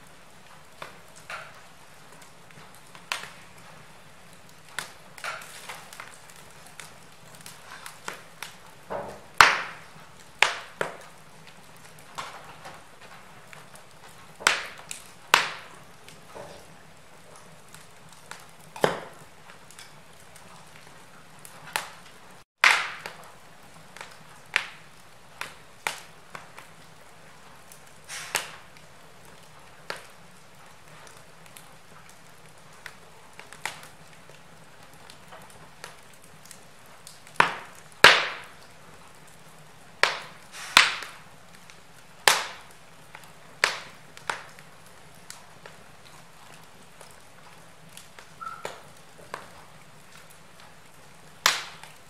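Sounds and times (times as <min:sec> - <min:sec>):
soft fire hiss: 0:00.0 - 0:52.0
wood fire crackling and popping: 0:00.0 - 0:52.0.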